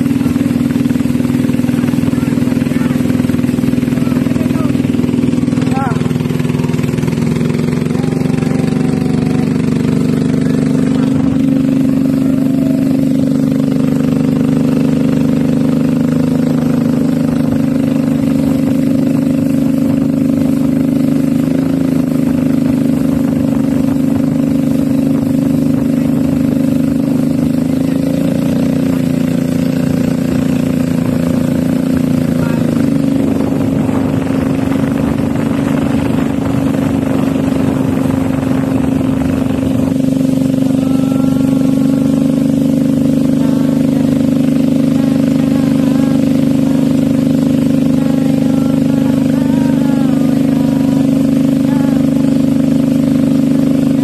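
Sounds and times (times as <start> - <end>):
small boat engine droning: 0.0 - 54.0.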